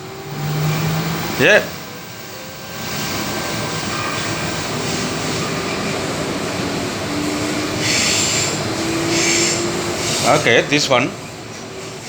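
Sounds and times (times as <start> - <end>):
electric train rumble and hiss: 0.0 - 12.0.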